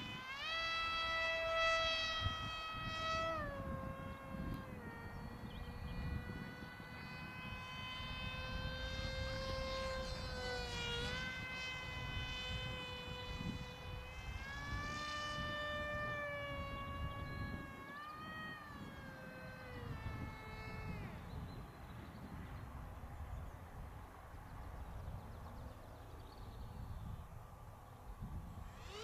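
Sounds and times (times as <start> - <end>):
model airplane propeller whine: 0.0 - 29.0
wind rumble on microphone: 0.0 - 29.0.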